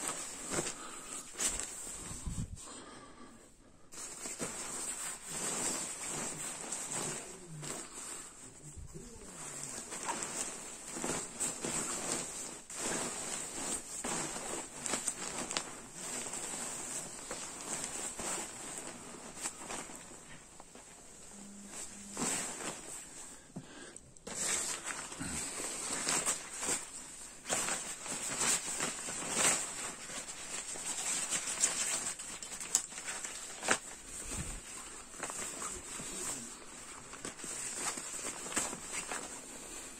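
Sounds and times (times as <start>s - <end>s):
sleeping bag nylon rustling: 0.0s - 2.6s, 3.9s - 23.6s, 24.2s - 39.9s.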